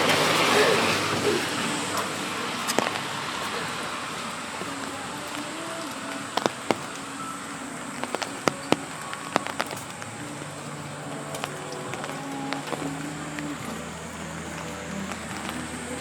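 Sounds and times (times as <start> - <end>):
heavy raindrops ticking: 0.0 - 16.0
rain hissing on street: 0.0 - 16.0.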